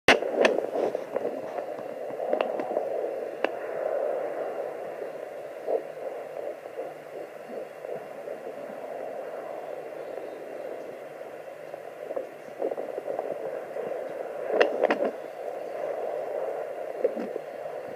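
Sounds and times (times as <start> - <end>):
sharp crackles: 0.1 - 3.6, 4.4 - 17.8
fetal doppler whooshing pulse: 0.1 - 17.9.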